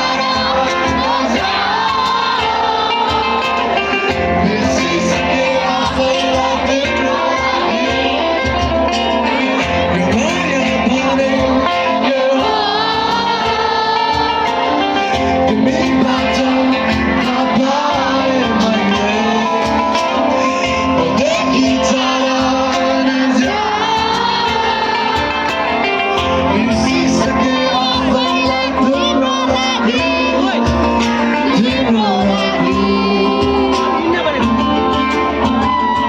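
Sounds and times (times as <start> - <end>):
live band playing: 0.0 - 36.0
person singing: 0.0 - 36.0.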